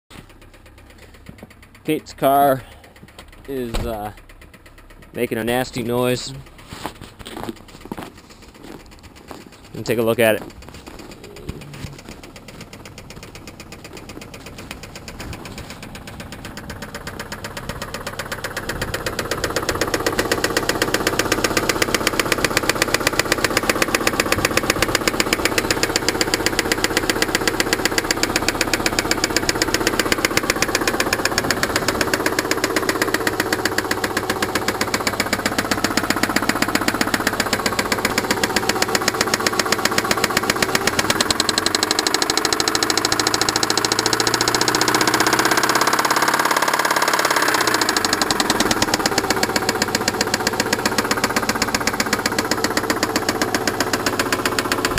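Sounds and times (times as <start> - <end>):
engine idling with rapid knock: 0.1 - 54.9.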